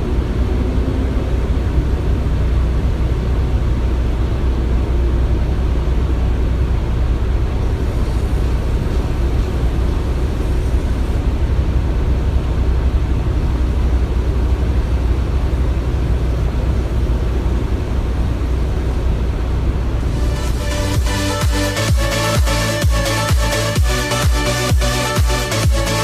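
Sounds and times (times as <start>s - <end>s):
construction machinery rumbling: 0.0s - 26.0s.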